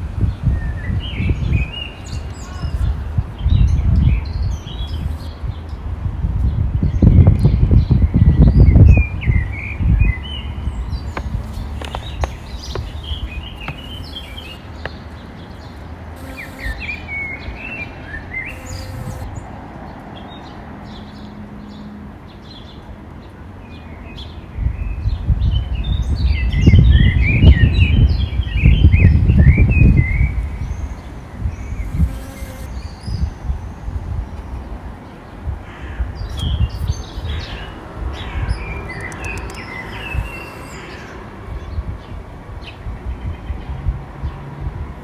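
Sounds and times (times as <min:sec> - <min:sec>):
small birds chirping: 0:00.3 - 0:05.8, 0:06.4 - 0:19.6, 0:20.2 - 0:44.4.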